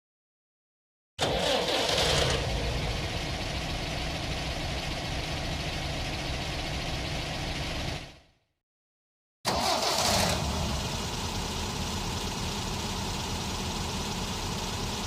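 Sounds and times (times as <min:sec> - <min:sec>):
car engine starting and idling: 0:01.2 - 0:08.3, 0:09.5 - 0:15.0.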